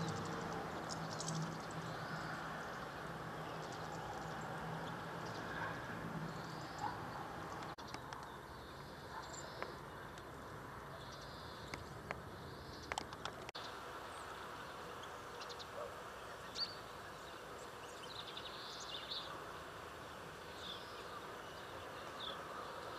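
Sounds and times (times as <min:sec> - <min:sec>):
outdoor background hiss: 0:00.0 - 0:22.9
songbirds chirping: 0:00.0 - 0:22.9.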